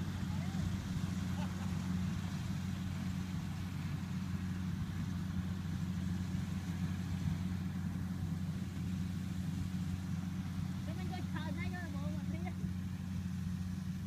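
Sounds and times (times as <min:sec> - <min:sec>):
harvester engine humming: 0:00.0 - 0:14.0.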